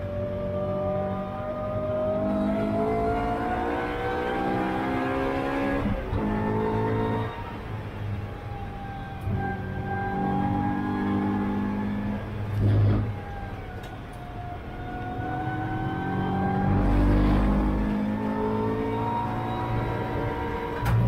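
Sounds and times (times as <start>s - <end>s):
race car engine: 0.0s - 21.0s.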